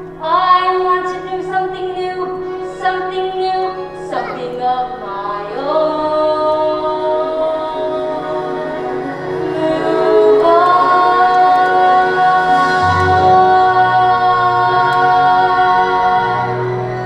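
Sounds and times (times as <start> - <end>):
musical accompaniment: 0.0 - 17.0
voices singing long note: 0.0 - 17.0.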